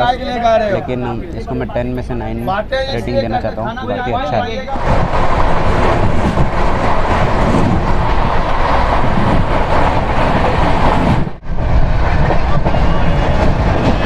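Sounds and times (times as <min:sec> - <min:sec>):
passing train rushing: 0:00.0 - 0:14.0
train wind and wheel roar: 0:00.0 - 0:14.0.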